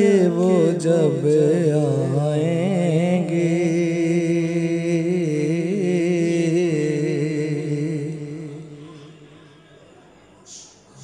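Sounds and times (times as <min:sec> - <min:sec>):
man singing unaccompanied: 0:00.0 - 0:09.4.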